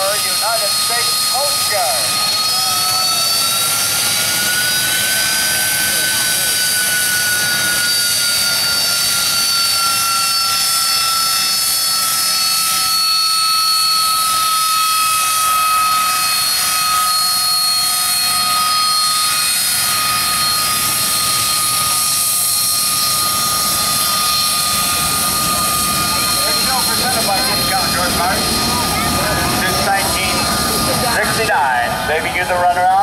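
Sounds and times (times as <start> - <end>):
jet engine whine: 0.0 - 33.0.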